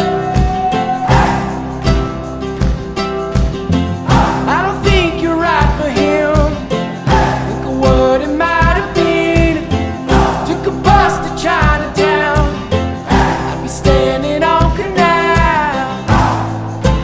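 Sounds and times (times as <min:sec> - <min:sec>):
person singing: 0:00.0 - 0:02.5, 0:03.7 - 0:17.0
acoustic folk-pop song: 0:00.0 - 0:17.0
guitar: 0:00.0 - 0:17.0
steady drum beat: 0:00.0 - 0:17.0.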